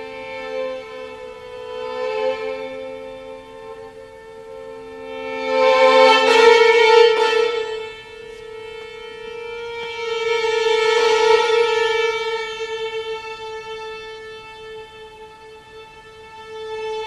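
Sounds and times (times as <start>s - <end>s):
lower violin note: 0.0s - 17.0s
violin long bowed note: 0.0s - 17.0s.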